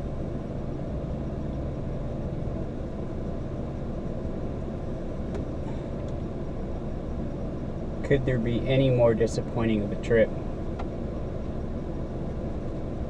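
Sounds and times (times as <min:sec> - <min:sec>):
constant low hum: 0:00.0 - 0:13.0
motor vehicle rumble: 0:00.0 - 0:13.0.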